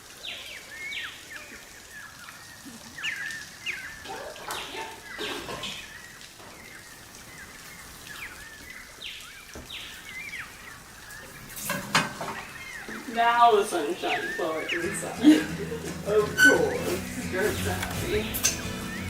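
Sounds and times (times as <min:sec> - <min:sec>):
outdoor background noise: 0:00.0 - 0:19.0
birds chirping and whistling: 0:00.2 - 0:19.0
pattering noise: 0:01.0 - 0:19.0.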